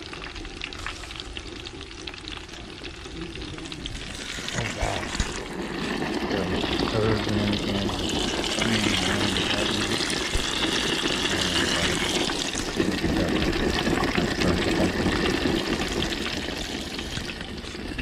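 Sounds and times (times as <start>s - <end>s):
oil bubbling and crackling: 0.0s - 18.0s.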